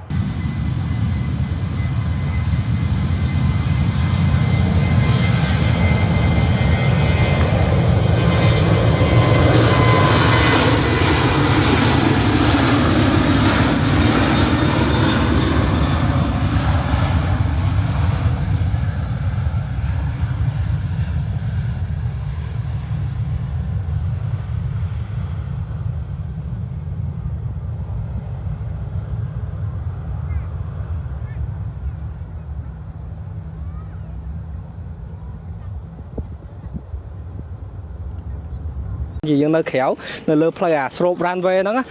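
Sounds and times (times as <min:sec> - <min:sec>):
jet airliner passing: 0:00.0 - 0:41.9.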